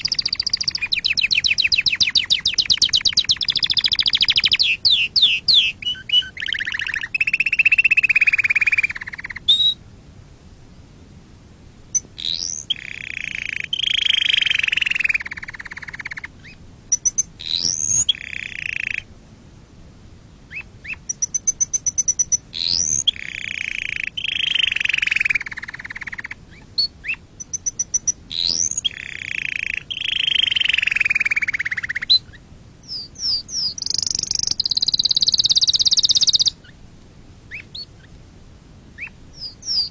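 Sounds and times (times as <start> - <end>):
canary singing: 0.0 - 9.8, 11.9 - 19.1, 20.5 - 36.8, 37.5 - 38.2, 39.0 - 39.9.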